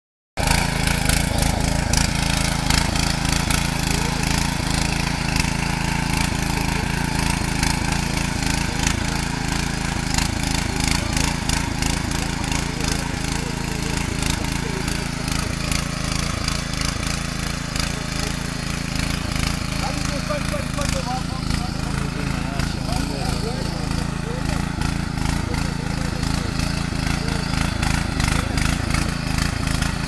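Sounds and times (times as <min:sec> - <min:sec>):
small engine running under load: 0:00.4 - 0:30.0
tines churning soil: 0:00.4 - 0:30.0.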